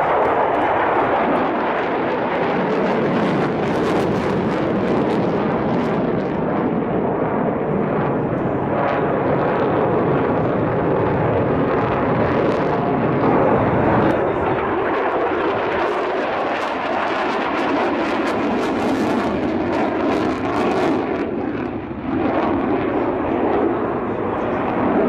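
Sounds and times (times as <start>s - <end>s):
aircraft engine rush: 0.0s - 25.0s.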